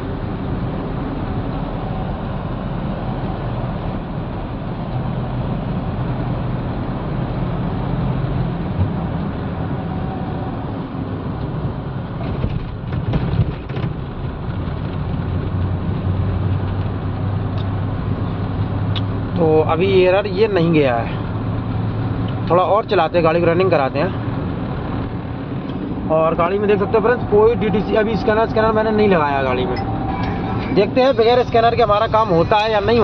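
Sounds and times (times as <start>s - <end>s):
diesel engine running: 0.0s - 12.9s, 14.0s - 33.0s
road noise: 0.0s - 33.0s.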